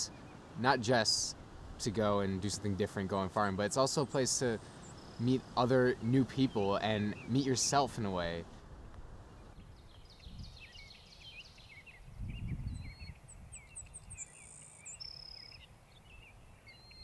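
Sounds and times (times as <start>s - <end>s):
songbirds chirping and singing: 0.0s - 8.5s, 9.2s - 17.0s.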